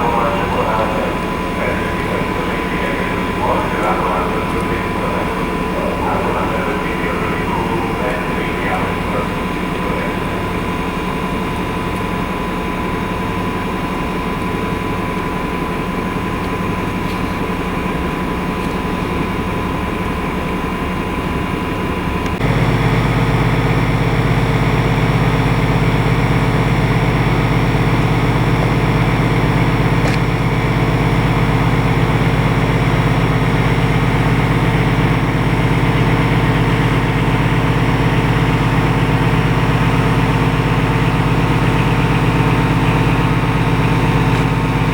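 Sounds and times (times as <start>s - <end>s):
locomotive engine humming: 0.0s - 44.9s.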